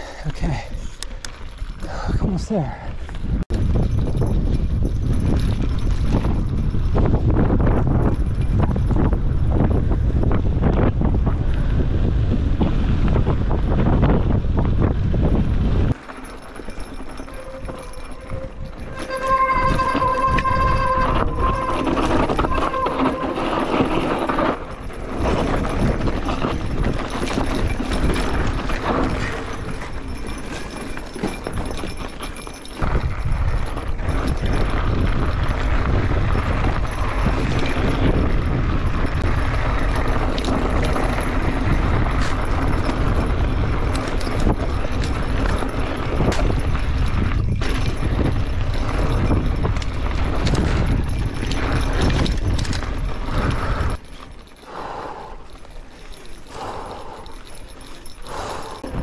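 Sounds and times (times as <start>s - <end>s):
bike rattling over bumps: 0.0s - 2.2s, 3.0s - 59.0s
wind rumble on microphone: 0.0s - 55.6s, 56.4s - 59.0s.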